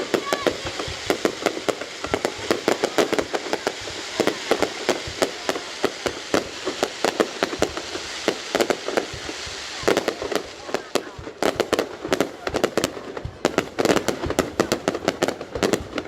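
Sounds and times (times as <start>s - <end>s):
fireworks bangs and pops: 0.0s - 16.0s
fireworks crackle: 0.0s - 16.0s.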